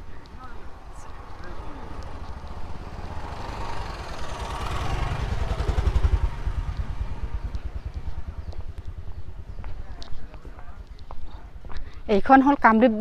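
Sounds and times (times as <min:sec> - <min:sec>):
engine running: 0:00.2 - 0:11.9.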